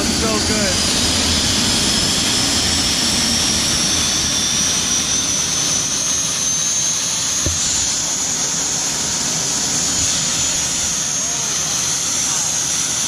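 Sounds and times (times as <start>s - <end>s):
high turbine whine: 0.0s - 13.0s
jet engine exhaust rush: 0.0s - 13.0s.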